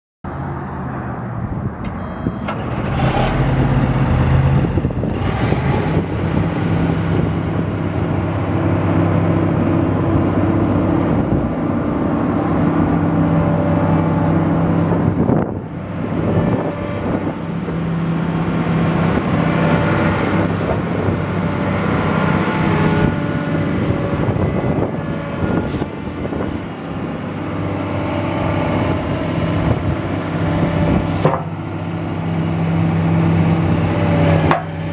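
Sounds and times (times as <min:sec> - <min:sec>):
excavator diesel engine running: 0:01.6 - 0:34.9.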